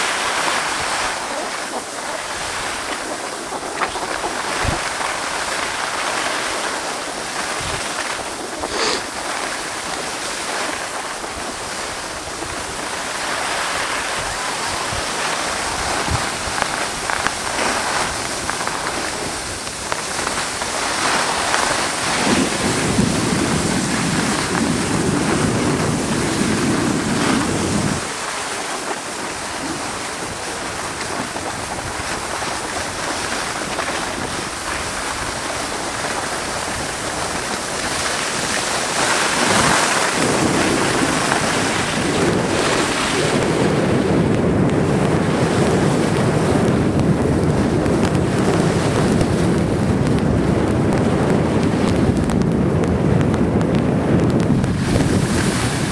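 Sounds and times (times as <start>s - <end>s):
skis hissing on snow: 0.0s - 43.8s, 54.7s - 55.9s
wind rushing over microphone: 0.0s - 55.9s.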